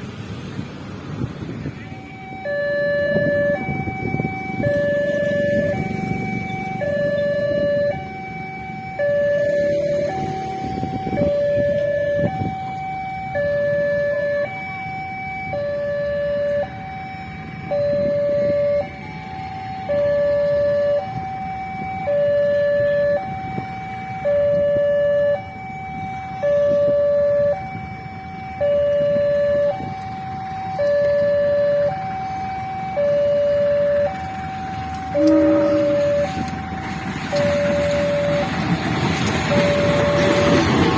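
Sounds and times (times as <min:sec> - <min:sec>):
low rumble of traffic: 0:00.0 - 0:40.9
two-tone crossing alarm: 0:01.6 - 0:40.9.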